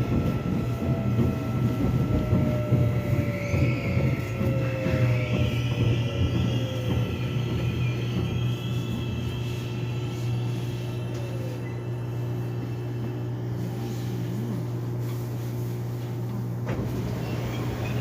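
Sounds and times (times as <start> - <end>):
subway train hum: 0.0 - 18.0.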